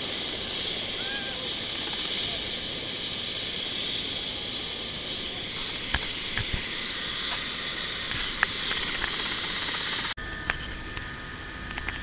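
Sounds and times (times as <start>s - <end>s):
helicopter turbine and rotor idling: 0.0s - 12.0s.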